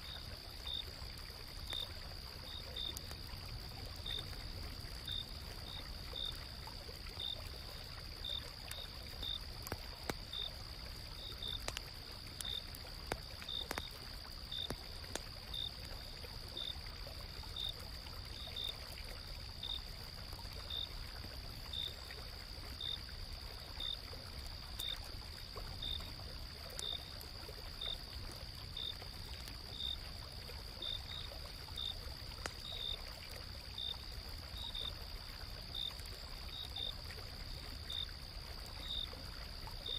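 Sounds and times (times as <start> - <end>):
cricket chirping: 0.0 - 39.9
stream flowing: 0.0 - 39.9
campfire crackling: 0.1 - 39.9
insects trilling: 0.1 - 39.9.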